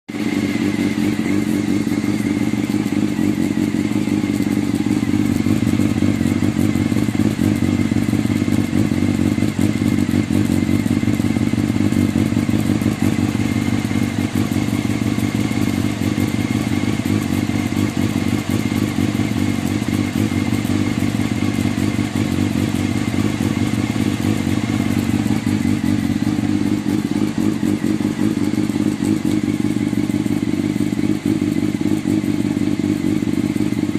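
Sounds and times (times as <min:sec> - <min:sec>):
engine clattering noise: 0:00.1 - 0:33.9
motorcycle engine idling: 0:00.1 - 0:33.9.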